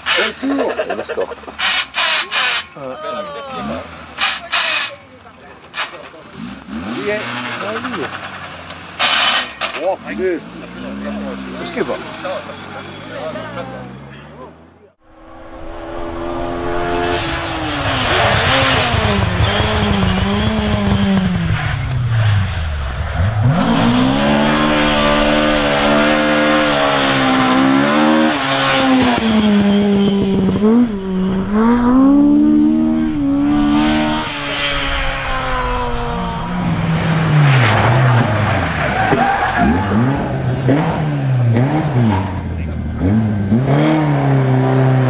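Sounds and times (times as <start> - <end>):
rally car engine revving: 0.0 - 45.0.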